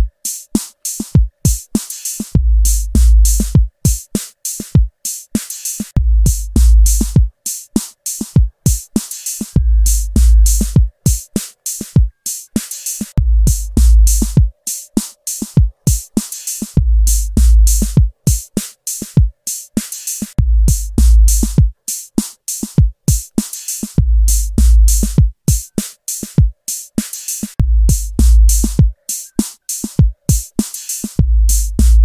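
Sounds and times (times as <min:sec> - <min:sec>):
electronic drum-machine beat: 0:00.0 - 0:32.0.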